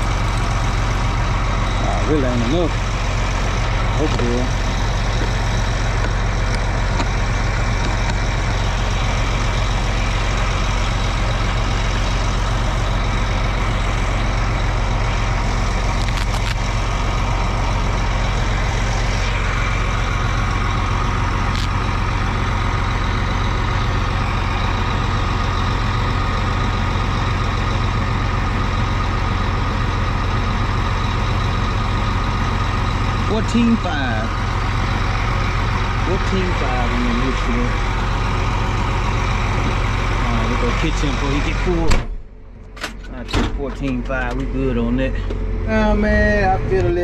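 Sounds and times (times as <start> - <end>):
tractor engine drone: 0.0 - 47.0.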